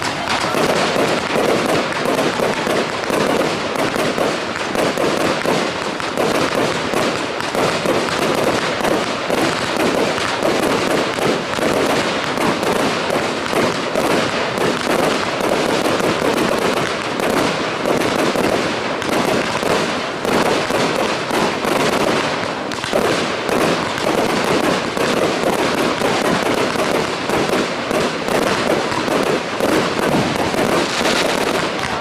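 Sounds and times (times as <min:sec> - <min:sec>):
fireworks popping and cracking: 0:00.0 - 0:32.0.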